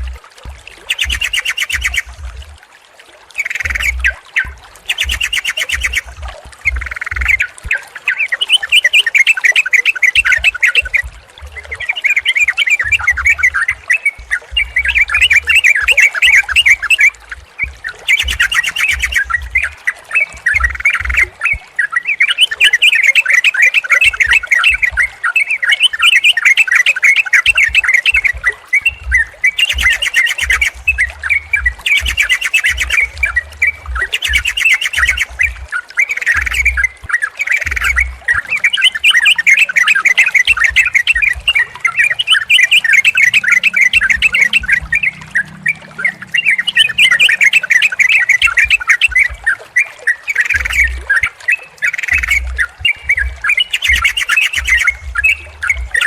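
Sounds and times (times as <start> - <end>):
bulbuls singing: 0.0 - 2.6, 3.3 - 56.0
hissy bird chirps: 0.9 - 2.2, 3.4 - 17.2, 18.0 - 49.3.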